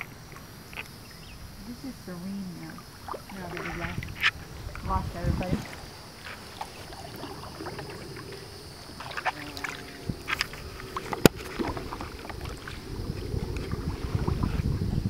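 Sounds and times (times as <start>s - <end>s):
paddle splashing in water: 0.0s - 15.0s.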